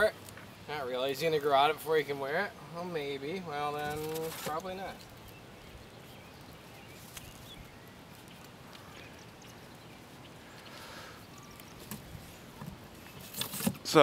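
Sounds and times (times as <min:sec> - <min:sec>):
faint outdoor background noise: 0:00.0 - 0:14.0.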